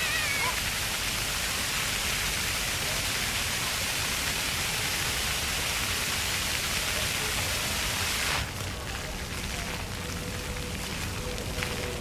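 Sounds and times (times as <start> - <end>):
fountain jets splashing water: 0.0 - 12.0.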